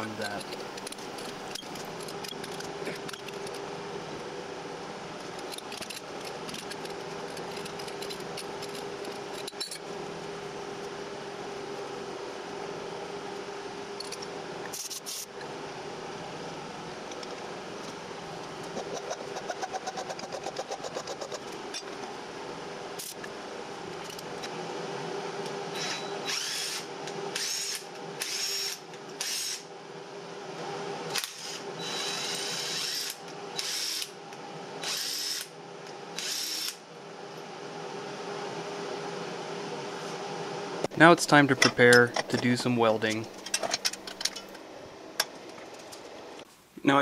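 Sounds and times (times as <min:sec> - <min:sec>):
background hum: 0:00.0 - 0:47.0.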